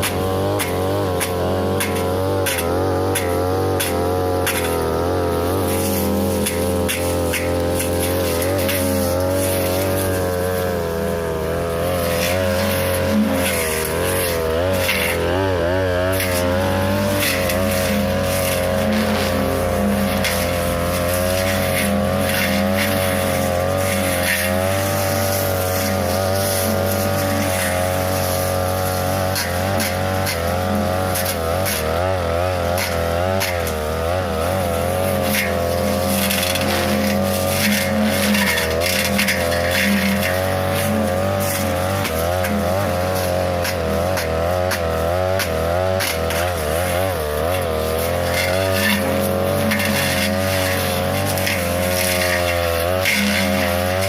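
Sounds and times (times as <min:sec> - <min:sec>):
brush cutter running at high revs: 0:00.0 - 0:54.0.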